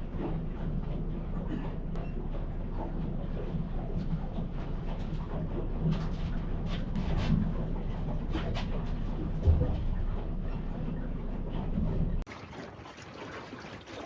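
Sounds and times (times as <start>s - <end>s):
boat motor rumbling: 0.0s - 14.0s.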